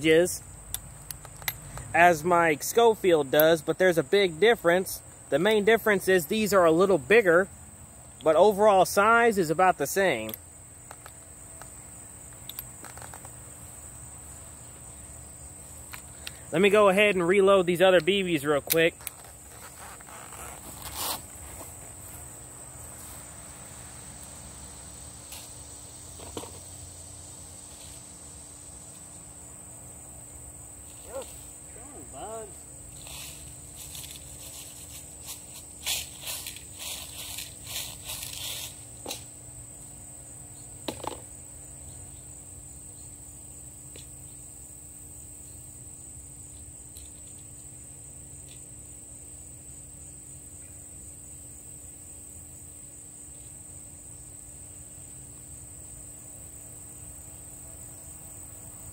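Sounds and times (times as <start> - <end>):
insects chorus: 0.0 - 58.9.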